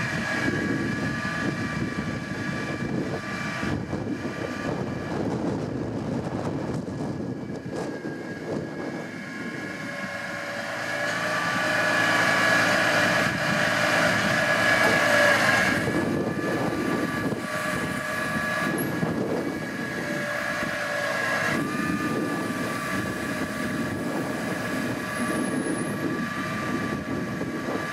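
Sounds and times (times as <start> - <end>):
hydraulics whining: 0.0 - 27.9
truck engine running: 0.0 - 27.9.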